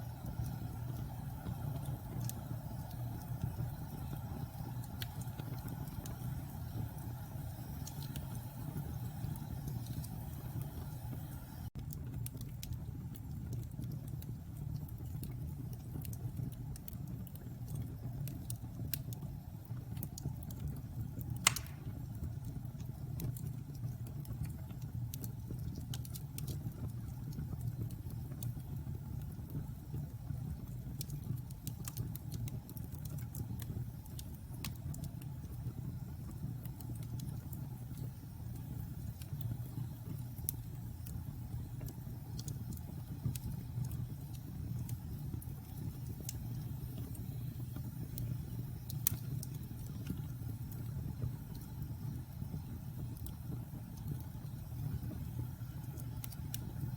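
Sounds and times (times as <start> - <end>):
fire crackles and pops: 0.0 - 56.9
logs burning low rumble: 0.0 - 56.9.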